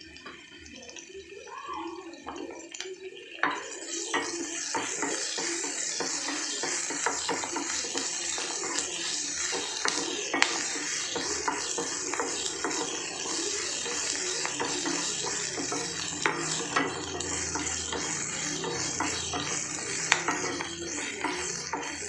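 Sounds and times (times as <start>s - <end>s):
onions sizzling in oil: 0.0s - 22.0s
spatula scraping a pan: 3.6s - 22.0s.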